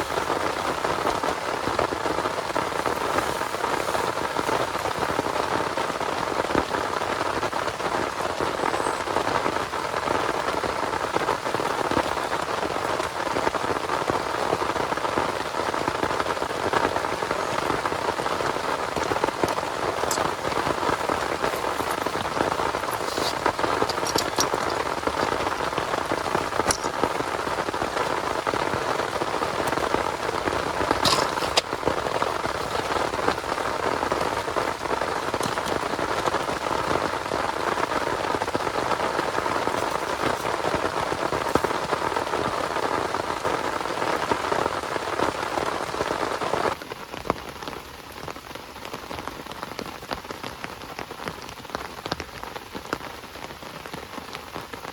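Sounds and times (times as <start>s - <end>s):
raindrop ticks: 0.0s - 47.5s
heavy rain falling: 0.0s - 54.9s.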